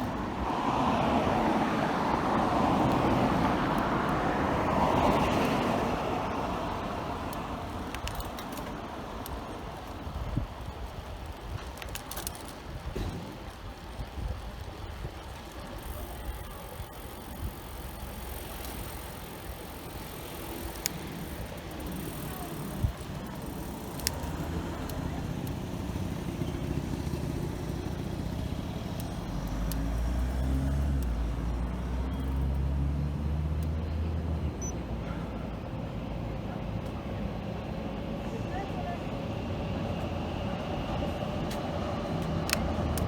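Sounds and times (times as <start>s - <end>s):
city street traffic: 0.0s - 43.0s
vehicle engine rumble: 0.0s - 43.0s.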